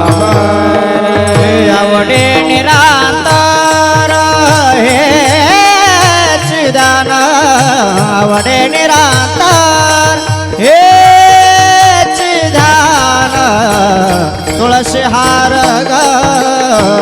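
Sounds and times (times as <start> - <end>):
drum beat: 0.0 - 17.0
instrumental accompaniment: 0.0 - 17.0
person singing devotional song: 0.0 - 17.0.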